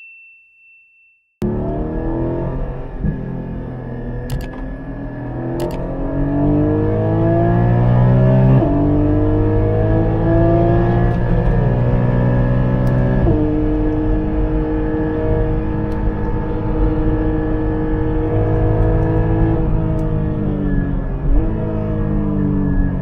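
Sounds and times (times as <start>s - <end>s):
car engine accelerating: 1.4s - 23.0s.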